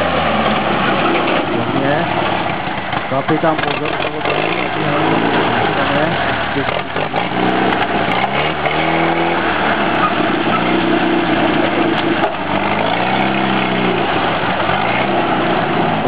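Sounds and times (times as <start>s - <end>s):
tractor engine revving: 0.0s - 16.0s.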